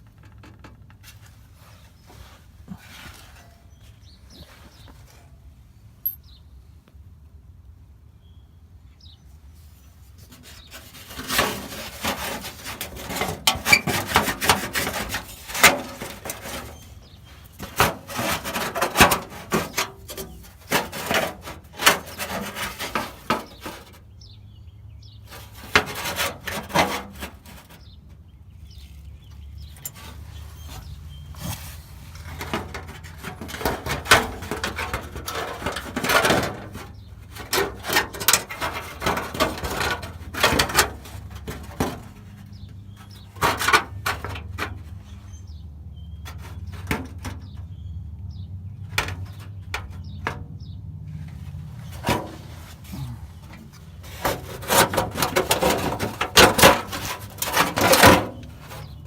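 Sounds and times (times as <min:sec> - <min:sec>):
rubbing and scraping on parts: 0:00.0 - 0:06.2, 0:09.5 - 0:24.2, 0:25.1 - 0:47.9, 0:48.8 - 0:59.0.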